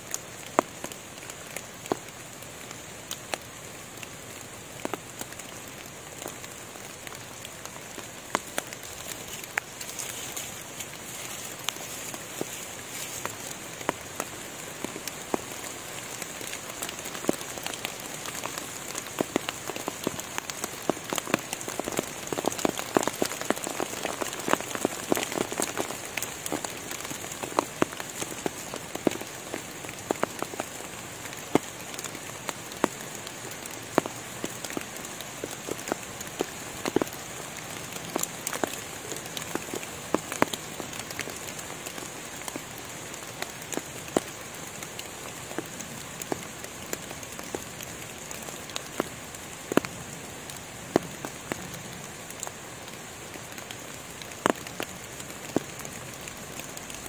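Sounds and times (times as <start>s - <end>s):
rain hissing through forest canopy: 0.0s - 57.0s.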